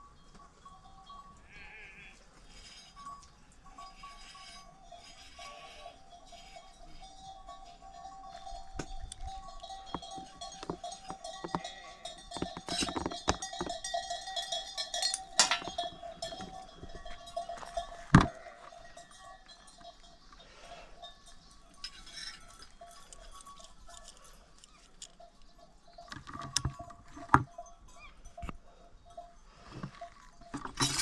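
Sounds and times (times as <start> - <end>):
metallic clinking and ringing: 0.0 - 31.0.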